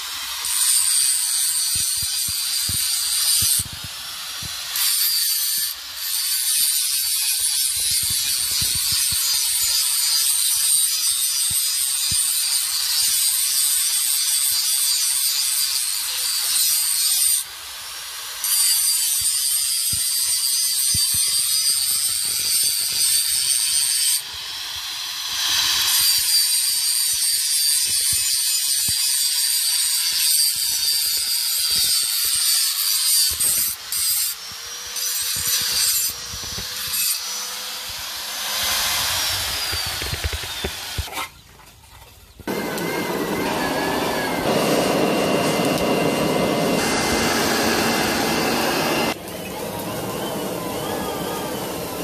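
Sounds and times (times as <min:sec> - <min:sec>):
angle grinder grinding steel: 0:00.0 - 0:41.1, 0:42.5 - 0:52.0.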